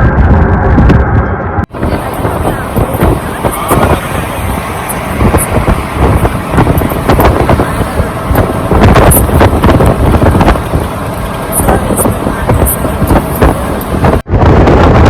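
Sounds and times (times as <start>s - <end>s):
vehicle engine and road noise: 0.0s - 15.0s
wind buffeting microphone: 0.0s - 15.0s.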